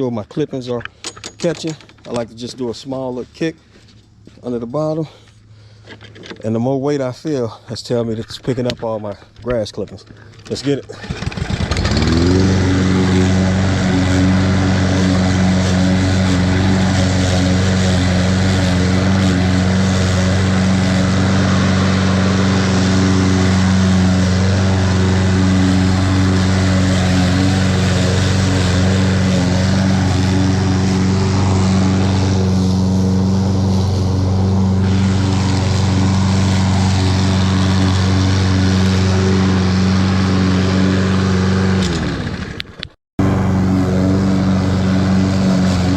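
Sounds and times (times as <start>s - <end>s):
lawn mower engine starting and running: 0.7s - 6.6s, 8.3s - 45.9s.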